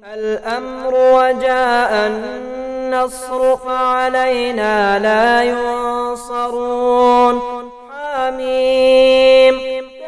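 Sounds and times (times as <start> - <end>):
person chanting a prayer: 0.0 - 10.0.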